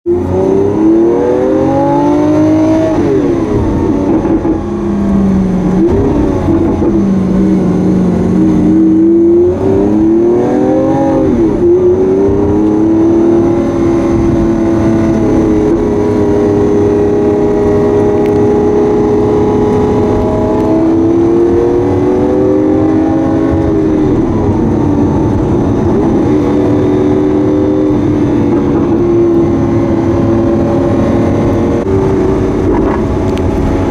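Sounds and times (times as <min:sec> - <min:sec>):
sports car engine revving: 0:00.1 - 0:33.9.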